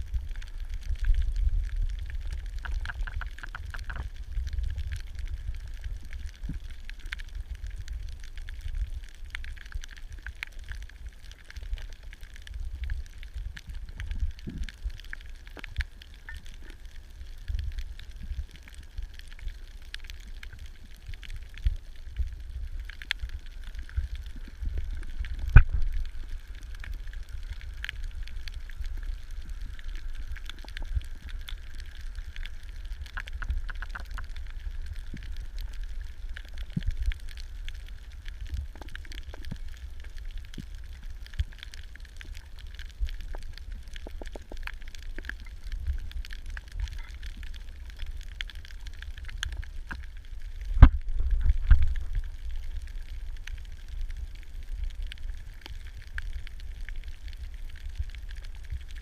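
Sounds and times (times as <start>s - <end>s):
crackling clicks underwater: 0.0s - 59.0s
low rumble of moving water: 0.0s - 59.0s.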